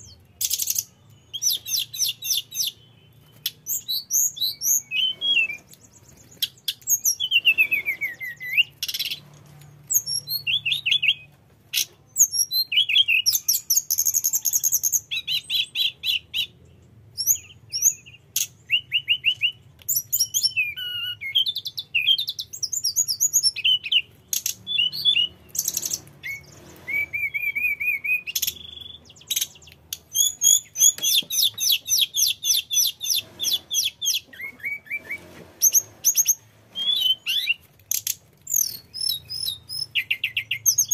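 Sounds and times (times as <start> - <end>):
bird singing whistles and trills: 0.0 - 9.2, 9.8 - 40.9.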